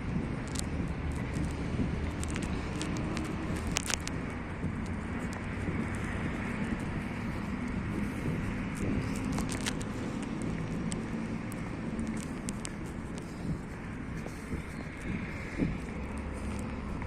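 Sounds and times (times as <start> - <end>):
road traffic rumble: 0.0 - 17.0
faint clicks: 0.4 - 7.5, 8.3 - 17.0.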